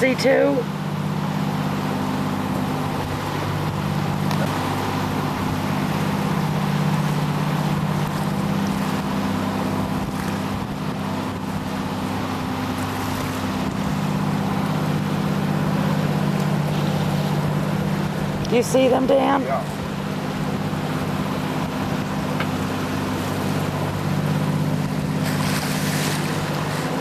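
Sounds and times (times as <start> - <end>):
hiss of water and wind: 0.0 - 27.0
motorboat engine running: 0.0 - 27.0.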